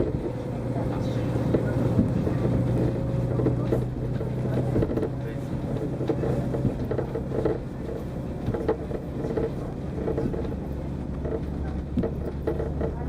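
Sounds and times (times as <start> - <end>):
railcar engine and wheels rumbling: 0.0 - 13.0.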